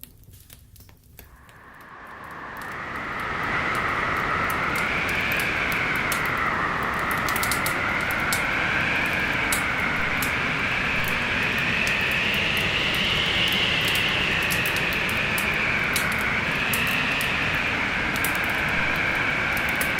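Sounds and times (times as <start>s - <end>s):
wood fire crackling: 0.0s - 13.0s, 13.6s - 19.9s
storm wind howling: 1.3s - 19.9s.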